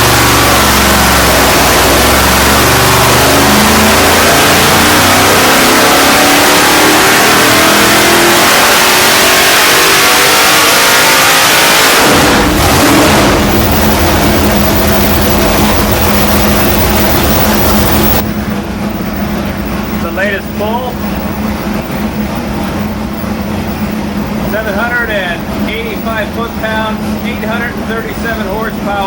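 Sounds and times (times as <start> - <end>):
engine revving under load: 0.0 - 29.0.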